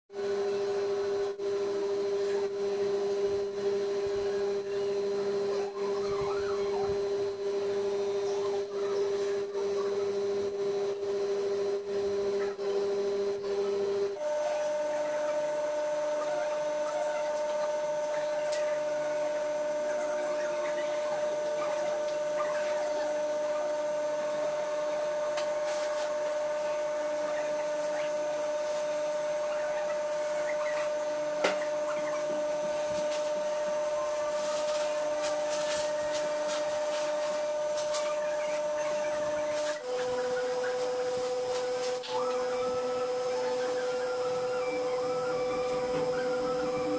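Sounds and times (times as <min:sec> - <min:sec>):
steady machine hum: 0:00.1 - 0:46.9.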